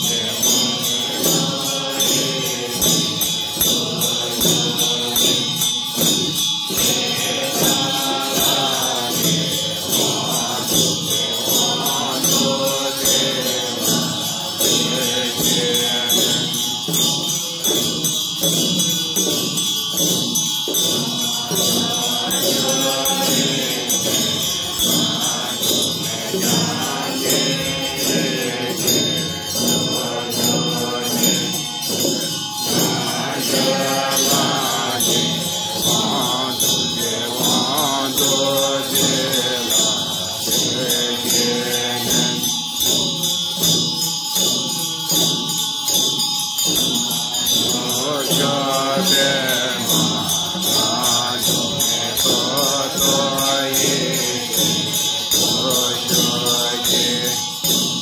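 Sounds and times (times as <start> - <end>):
group chanting prayers in unison: 0.0 - 58.0
hand bells ringing: 0.0 - 58.0
handheld drum beat: 0.0 - 58.0.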